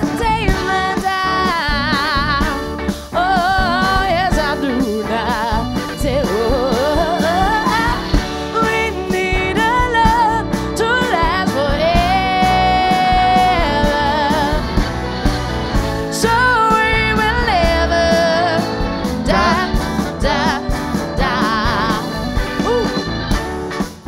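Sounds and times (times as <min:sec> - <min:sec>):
woman singing with vibrato: 0:00.0 - 0:15.0, 0:16.1 - 0:23.2
live rock band playing: 0:00.0 - 0:24.0.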